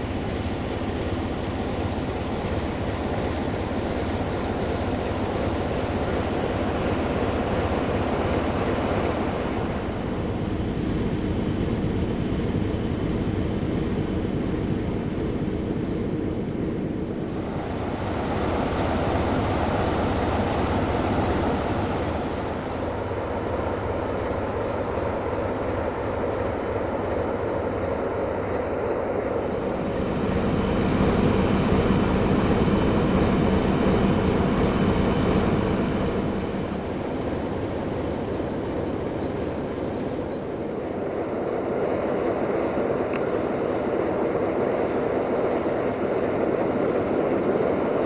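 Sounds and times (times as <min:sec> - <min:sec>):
diesel locomotive engine hum: 0:00.0 - 0:48.0
wagons rumbling on rails: 0:00.0 - 0:48.0.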